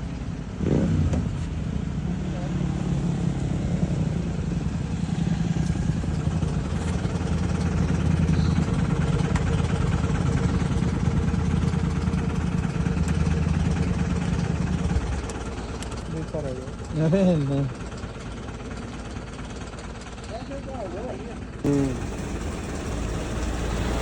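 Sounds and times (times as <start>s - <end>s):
vehicle engine idling: 1.2s - 24.0s.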